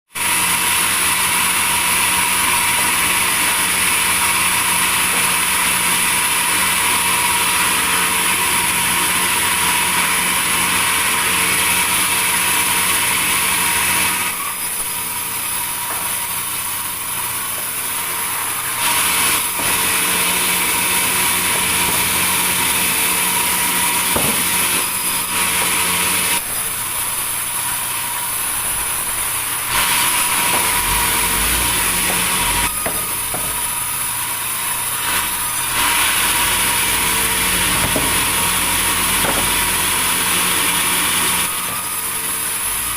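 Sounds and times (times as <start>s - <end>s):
sawmill machine hum: 0.1s - 42.9s
saw hissing through wood: 0.2s - 42.9s.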